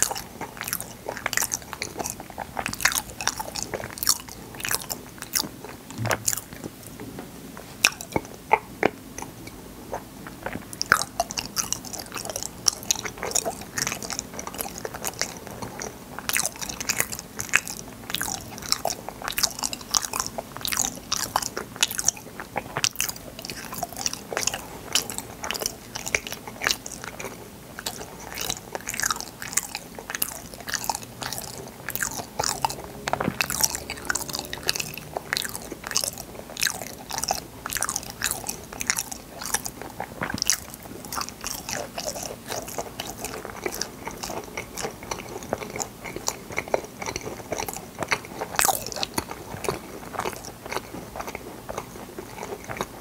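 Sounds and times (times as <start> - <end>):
biting and chewing: 0.0 - 7.0, 7.8 - 53.0.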